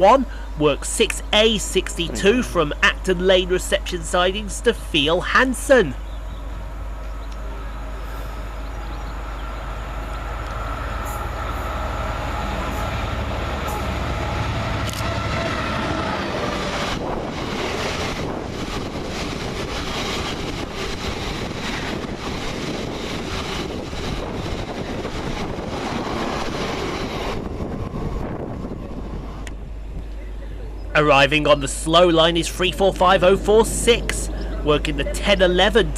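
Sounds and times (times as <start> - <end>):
diesel locomotive engine drone: 0.0 - 35.9.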